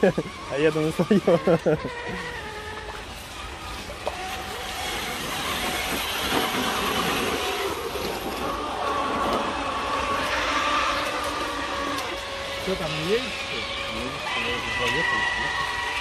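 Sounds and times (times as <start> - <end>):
electric motors whining: 0.0 - 16.0.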